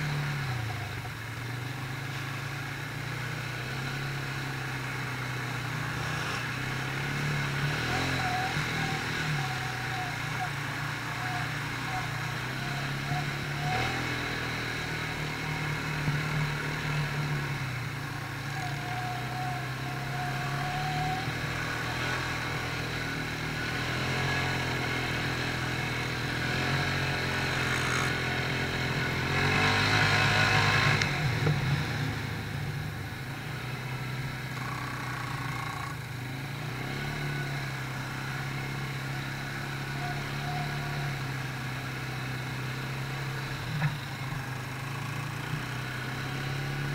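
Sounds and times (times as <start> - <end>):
quad bike engine running: 0.0 - 46.9.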